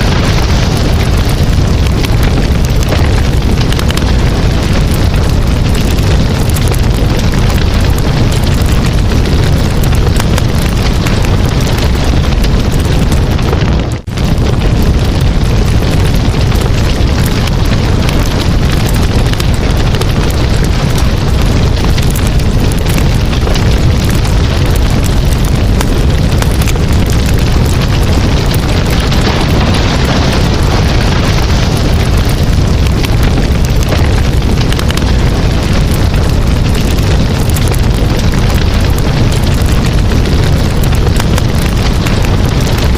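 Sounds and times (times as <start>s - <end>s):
campfire rumbling and crackling: 0.0s - 42.9s.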